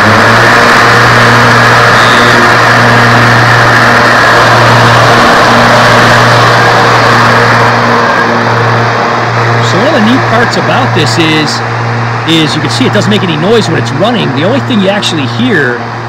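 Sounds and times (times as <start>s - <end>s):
air rush from spinning blades: 0.0s - 16.0s
electric mower hum: 0.0s - 16.0s.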